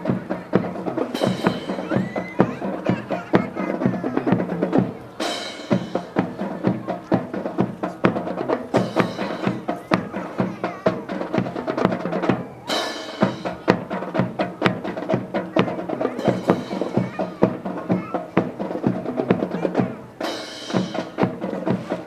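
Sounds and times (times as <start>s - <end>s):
music with drum beat: 0.0s - 22.0s.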